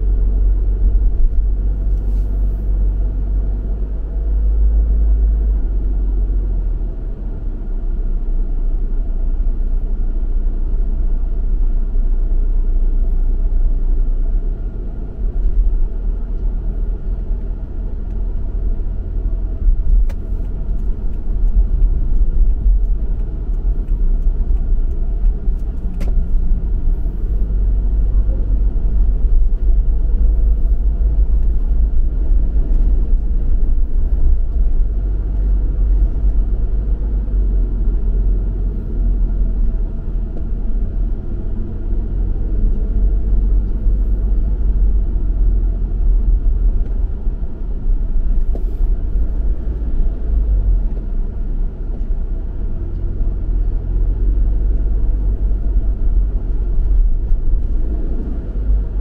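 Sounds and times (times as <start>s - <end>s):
car road rumble: 0.0s - 59.0s.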